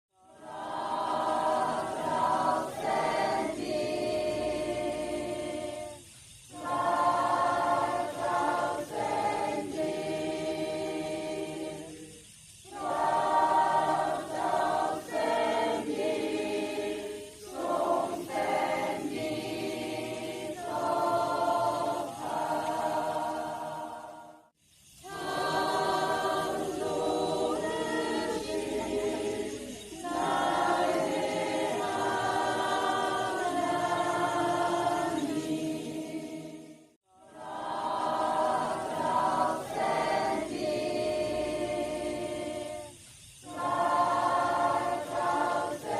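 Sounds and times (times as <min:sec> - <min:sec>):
group singing a praise song: 0:00.2 - 0:45.9.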